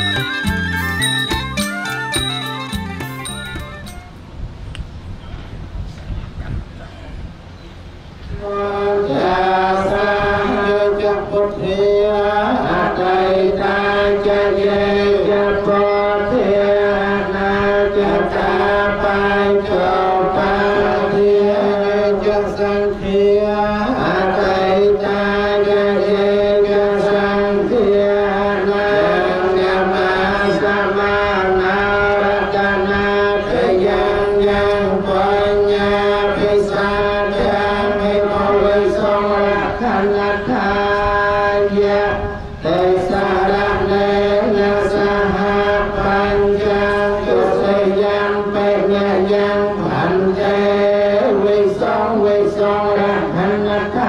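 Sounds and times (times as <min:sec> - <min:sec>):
monks chanting in a low drone: 0:05.0 - 0:54.0.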